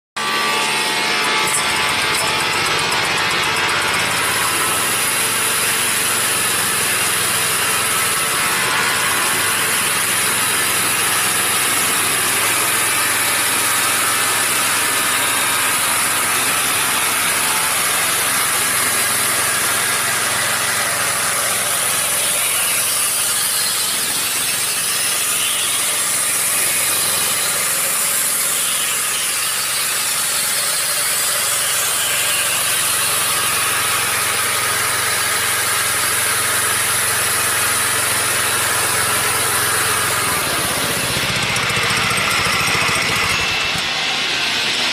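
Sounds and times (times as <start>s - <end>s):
small diesel engine running: 0.2s - 44.9s.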